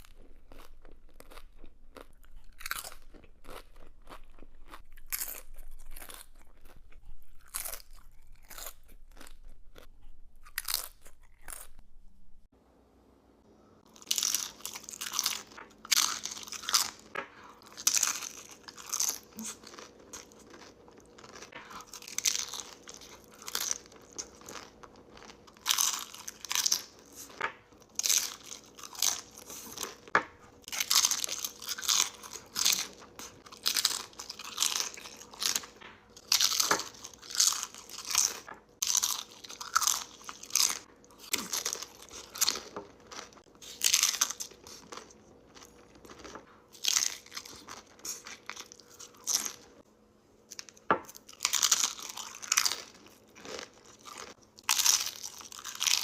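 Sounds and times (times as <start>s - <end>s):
crunching tortilla chips: 0.0s - 11.8s, 13.9s - 49.8s, 50.5s - 56.0s.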